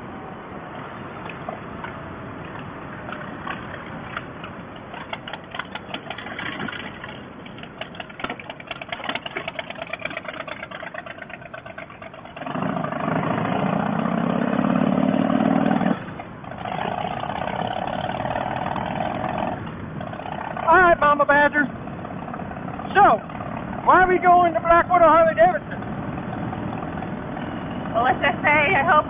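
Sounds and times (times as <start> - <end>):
motorcycle engine revving: 1.8 - 28.4.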